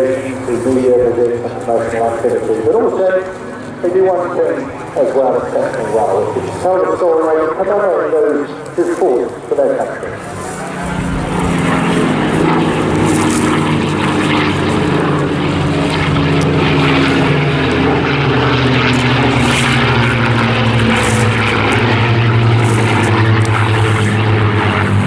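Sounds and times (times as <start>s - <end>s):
propeller planes flying past: 0.0s - 25.0s.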